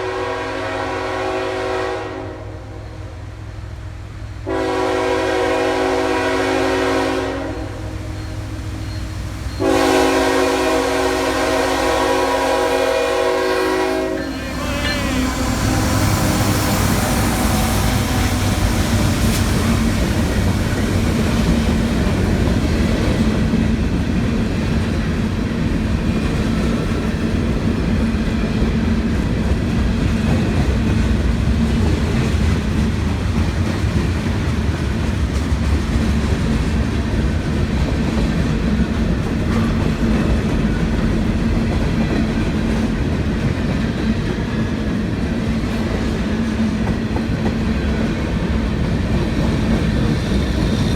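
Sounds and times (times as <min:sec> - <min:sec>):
freight train wheels rumbling on rails: 0:00.0 - 0:50.9.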